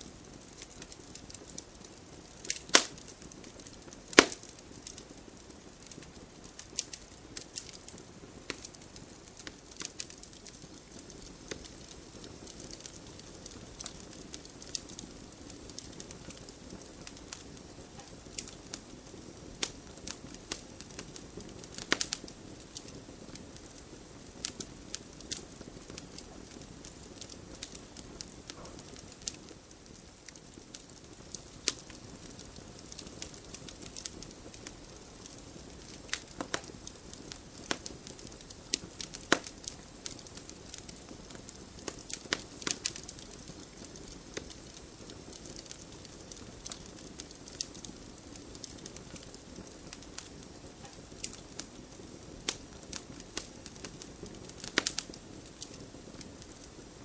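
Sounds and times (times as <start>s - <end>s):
logs crackling and popping: 0.0s - 57.0s
flames rushing softly: 0.1s - 57.0s.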